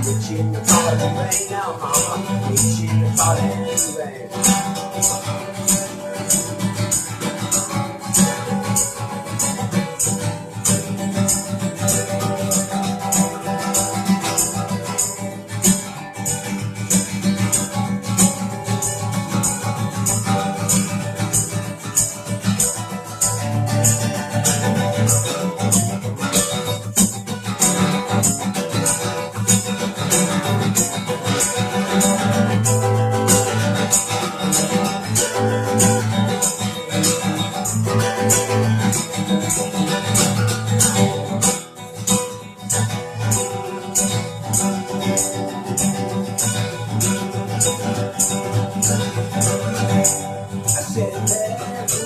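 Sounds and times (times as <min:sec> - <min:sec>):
guitar: 0:00.0 - 0:52.0
shaker keeping a beat: 0:00.0 - 0:52.0.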